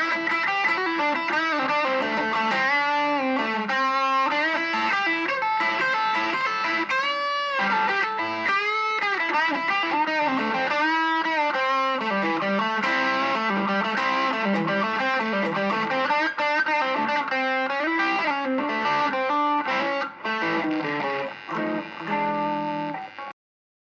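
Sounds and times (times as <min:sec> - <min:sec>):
electric guitar lead line: 0:00.0 - 0:23.4.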